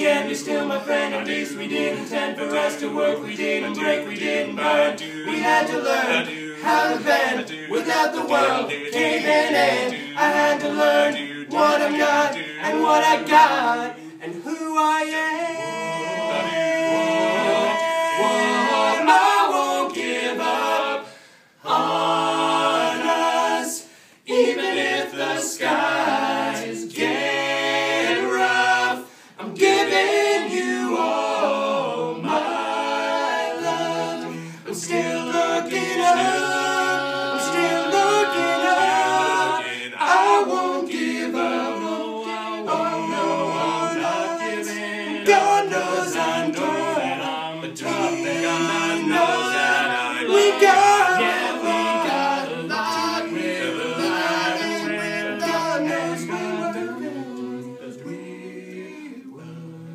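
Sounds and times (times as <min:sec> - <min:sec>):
male a cappella quartet singing: 0:00.0 - 0:59.9.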